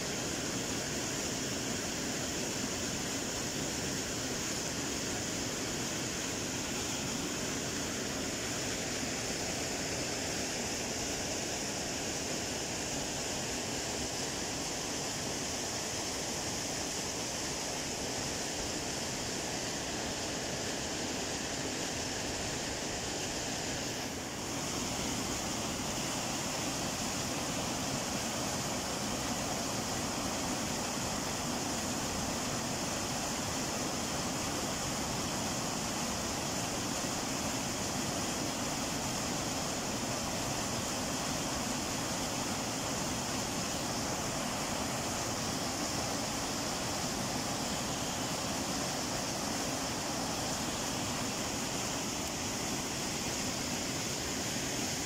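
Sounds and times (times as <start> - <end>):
river water rushing over rocks: 0.0 - 55.0
small waterfall splashing: 0.0 - 55.0.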